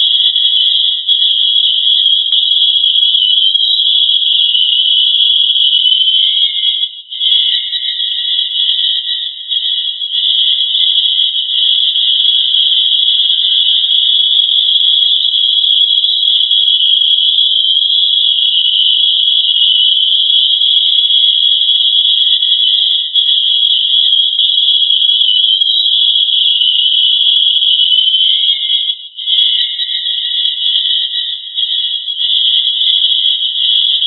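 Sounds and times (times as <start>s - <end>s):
high-pitched continuous tone: 0.0s - 34.0s.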